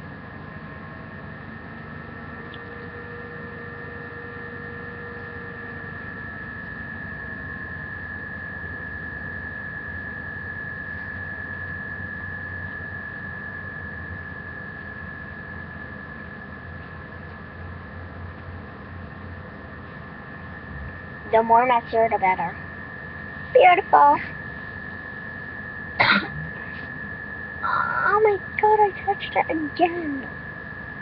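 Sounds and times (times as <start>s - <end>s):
electrical hum: 0.0s - 31.0s
high even whine: 0.0s - 31.0s.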